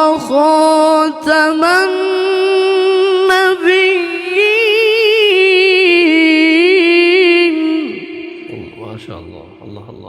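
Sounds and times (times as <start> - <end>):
person chanting melodic recitation: 0.0 - 10.0.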